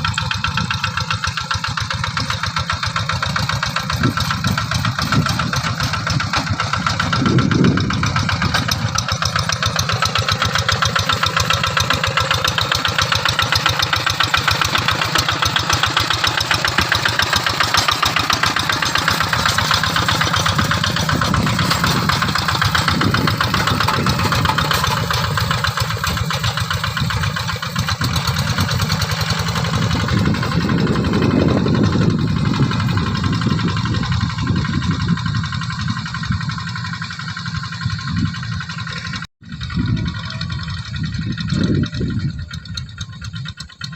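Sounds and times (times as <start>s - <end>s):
diesel tractor engine thumping: 0.0s - 43.9s.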